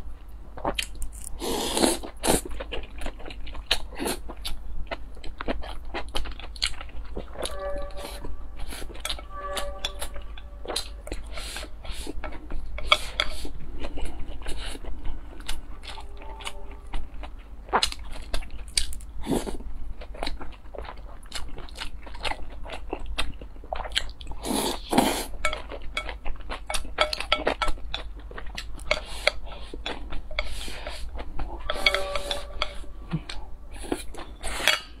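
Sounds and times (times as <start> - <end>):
chewing and crunching food: 0.0 - 35.0.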